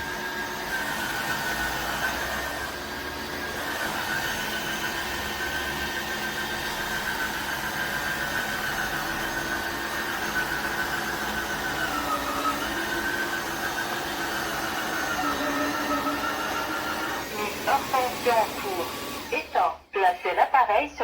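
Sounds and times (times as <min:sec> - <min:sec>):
floor cleaner motor whine: 0:00.0 - 0:20.0.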